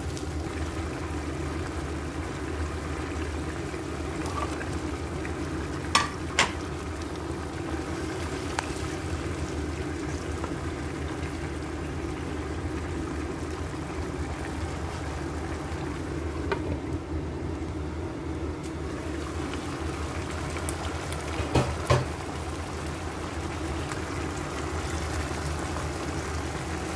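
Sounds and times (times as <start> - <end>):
constant low hum: 0.0 - 26.9
sauce bubbling in a pan: 0.0 - 26.9.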